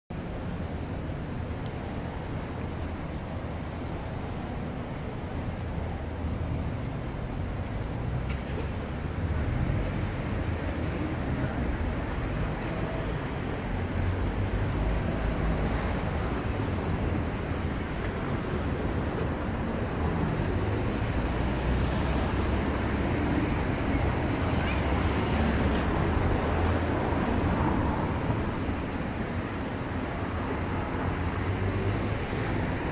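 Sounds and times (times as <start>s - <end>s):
road traffic rumble: 0.1s - 32.9s
wind: 0.1s - 32.9s.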